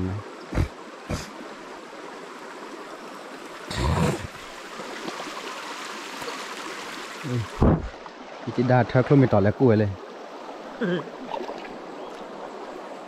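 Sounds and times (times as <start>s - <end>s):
shallow river water flowing: 0.0s - 13.0s.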